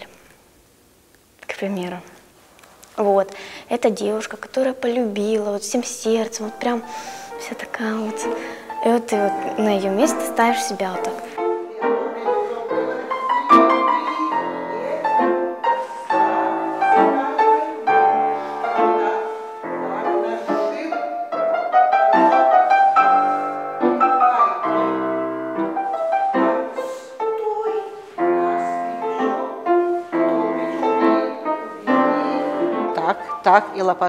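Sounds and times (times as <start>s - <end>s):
piano piece: 4.2s - 34.0s.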